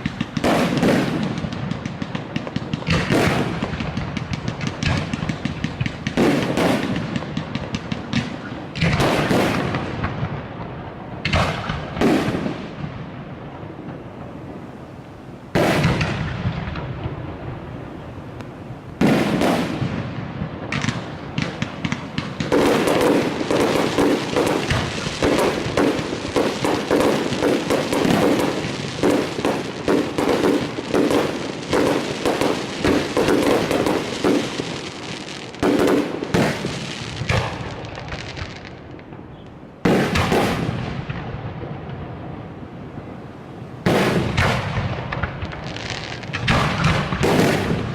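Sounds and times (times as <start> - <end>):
fireworks booming: 0.0 - 14.8, 15.5 - 47.9
fireworks bangs and crackles: 0.0 - 47.9.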